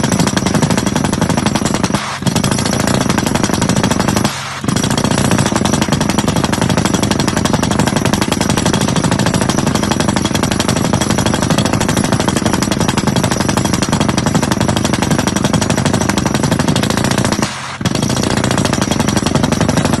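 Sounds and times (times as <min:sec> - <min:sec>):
rock drill hammering: 0:00.0 - 0:20.0.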